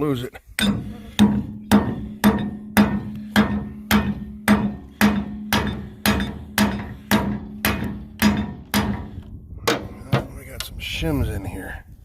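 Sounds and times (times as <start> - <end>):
hammer striking steel: 0.6 - 10.3.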